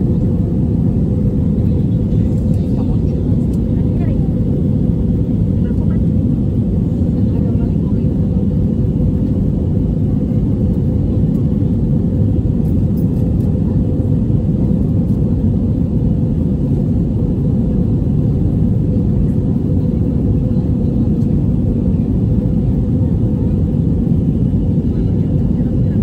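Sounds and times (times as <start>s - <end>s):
airplane cabin engine roar: 0.0s - 26.0s.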